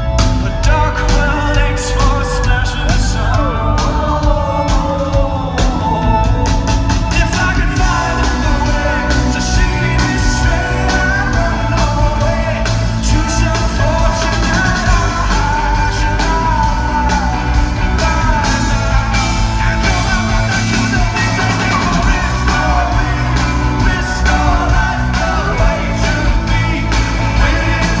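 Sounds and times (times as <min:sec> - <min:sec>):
live rock band: 0:00.0 - 0:28.0
man singing: 0:00.0 - 0:28.0.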